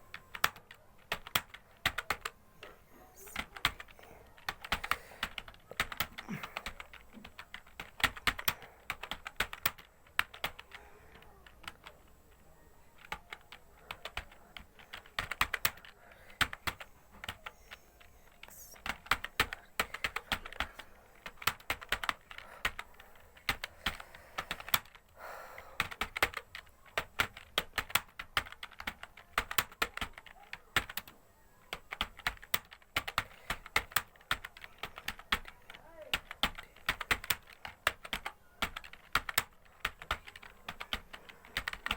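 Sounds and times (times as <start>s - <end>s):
fast typing on keyboard: 0.0s - 41.9s.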